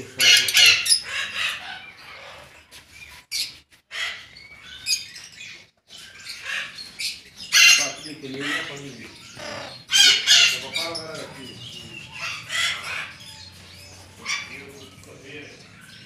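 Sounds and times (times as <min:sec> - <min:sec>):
parrots squawking: 0:00.0 - 0:16.0.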